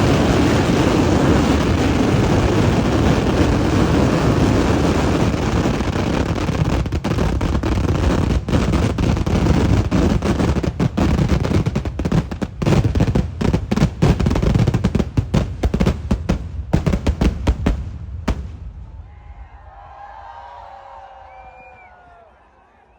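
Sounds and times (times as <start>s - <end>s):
firecracker blasts: 0.0s - 19.8s.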